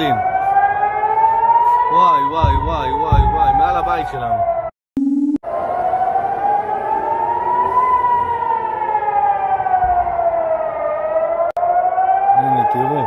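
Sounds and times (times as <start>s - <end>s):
air-raid siren wailing: 0.0s - 4.7s, 5.4s - 13.0s.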